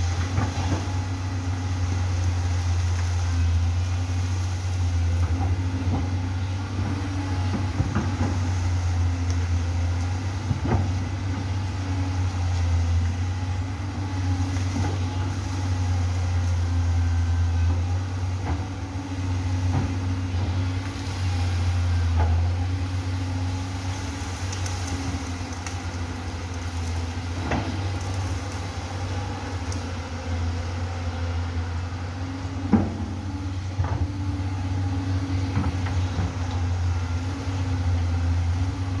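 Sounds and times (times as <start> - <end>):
excavator engine running: 0.0 - 39.0.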